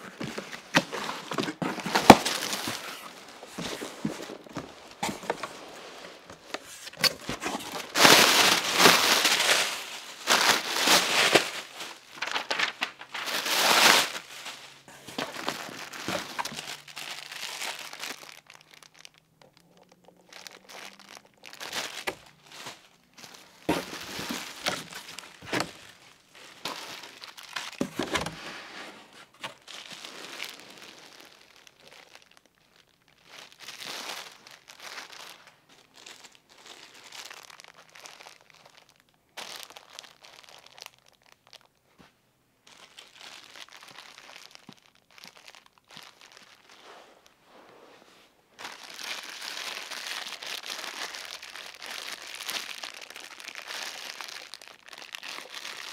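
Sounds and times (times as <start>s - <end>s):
plastic bags crinkling: 0.0s - 41.8s, 42.6s - 47.4s, 48.6s - 55.9s.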